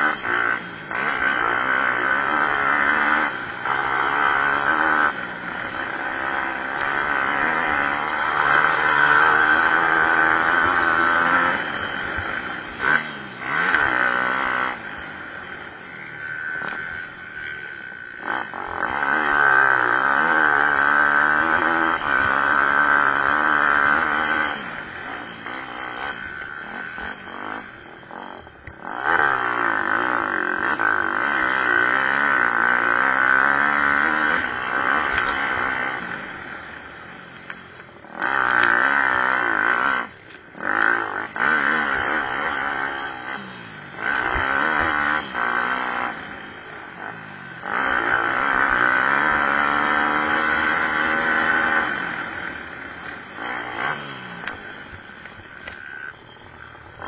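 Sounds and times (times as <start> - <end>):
pit bike engines revving: 0.0 - 57.0.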